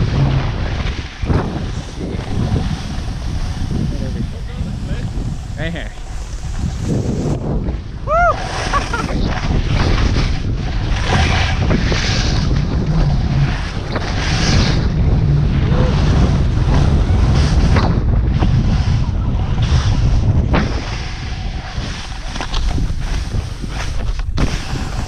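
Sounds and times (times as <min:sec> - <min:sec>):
skis hissing through snow: 0:00.0 - 0:14.8, 0:15.8 - 0:17.8, 0:18.6 - 0:25.0
wind buffeting microphone: 0:00.0 - 0:25.0.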